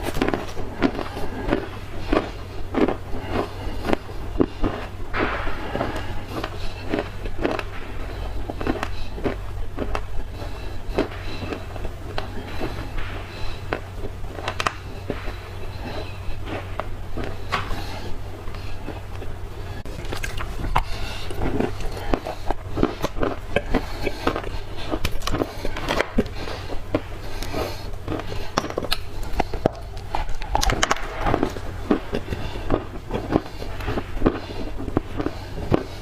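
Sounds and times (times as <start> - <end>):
low hum: 0.0 - 36.0
person chewing crunchy clay: 0.0 - 36.0.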